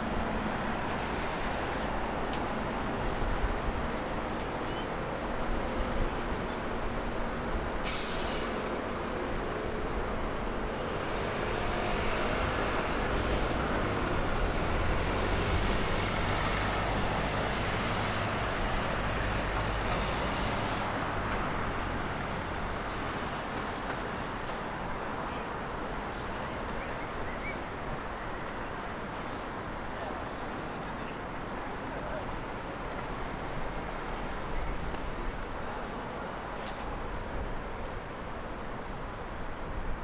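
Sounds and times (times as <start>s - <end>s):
bus engine rumbling past: 0.0s - 40.0s
city road traffic: 0.0s - 40.0s.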